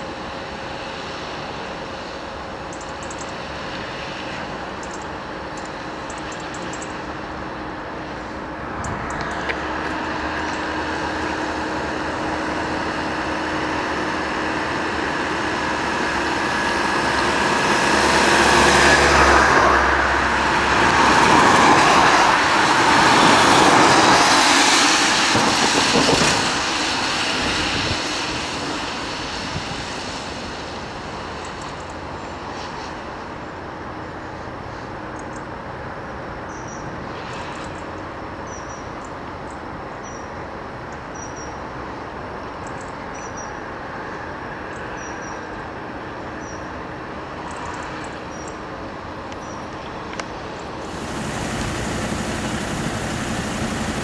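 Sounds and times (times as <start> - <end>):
heavy vehicle engine: 0.0 - 54.0
road noise: 0.0 - 54.0.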